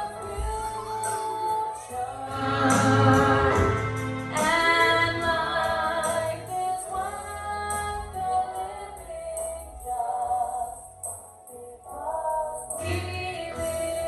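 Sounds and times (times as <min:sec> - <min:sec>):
women singing: 0:00.0 - 0:10.9, 0:11.6 - 0:14.0
gospel band playing: 0:00.0 - 0:14.0.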